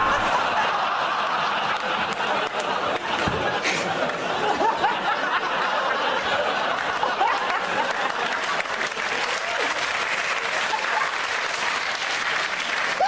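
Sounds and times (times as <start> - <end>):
audience applauding: 0.0 - 13.0
audience laughter: 0.0 - 13.0.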